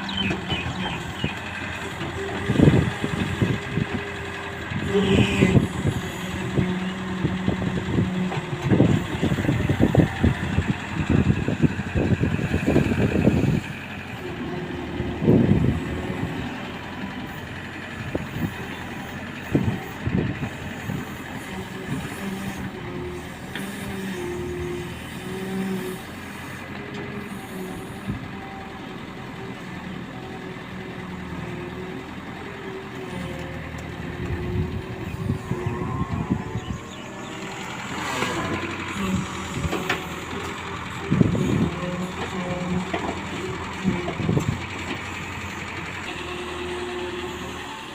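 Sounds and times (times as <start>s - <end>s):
diesel engine hum: 0.0s - 47.9s.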